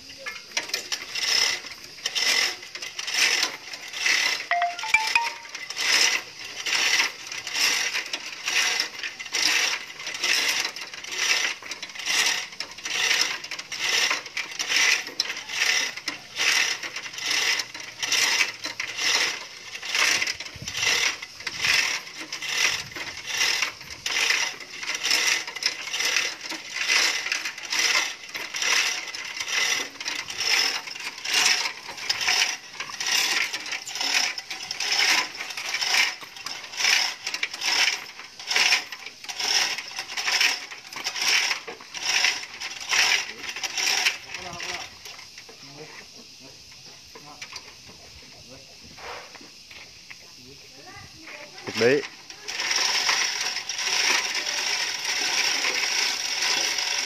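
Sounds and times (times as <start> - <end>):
chain hoist chain clinking: 0.2 - 47.8, 50.8 - 57.0.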